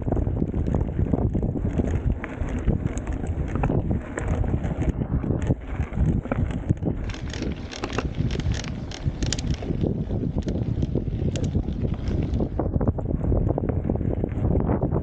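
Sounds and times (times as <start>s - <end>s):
bike rattling and clattering: 0.0s - 15.0s
bike tyres rumbling on dirt: 0.0s - 15.0s
wind buffeting microphone: 0.0s - 15.0s.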